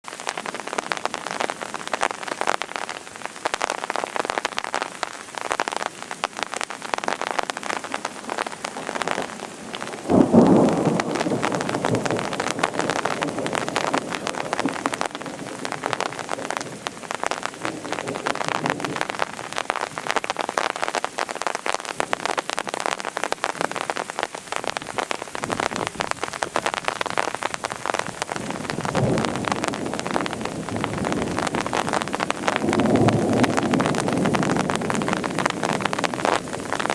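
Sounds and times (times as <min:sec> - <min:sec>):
heavy rain on hard surfaces: 0:00.0 - 0:36.9.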